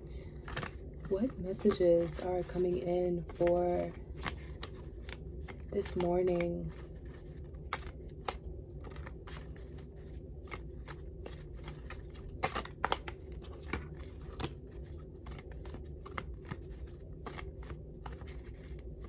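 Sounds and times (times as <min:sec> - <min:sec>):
cards being shuffled: 0:00.3 - 0:19.0.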